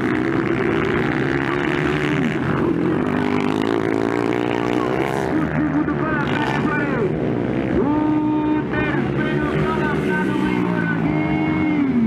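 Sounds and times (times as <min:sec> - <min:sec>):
motocross motorcycles revving: 0:00.0 - 0:12.0.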